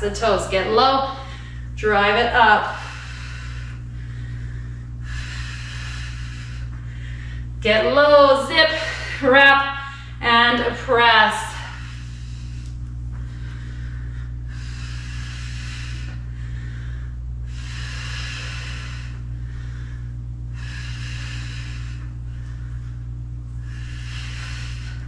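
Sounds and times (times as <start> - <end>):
low hum: 0.0 - 25.0
woman breathing hard: 0.3 - 1.8, 2.4 - 10.2, 11.4 - 25.0.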